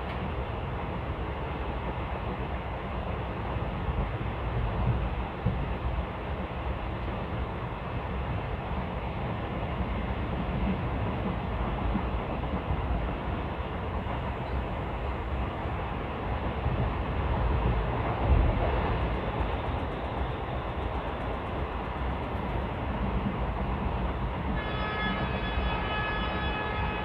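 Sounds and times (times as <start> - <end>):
train wheels rattling on rail: 0.0 - 27.0.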